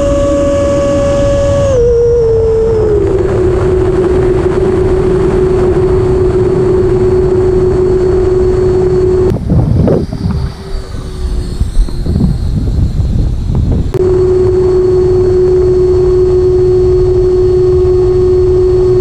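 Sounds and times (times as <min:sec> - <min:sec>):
electric ducted fan whine: 0:00.0 - 0:19.0
wind rush on camera: 0:00.0 - 0:19.0.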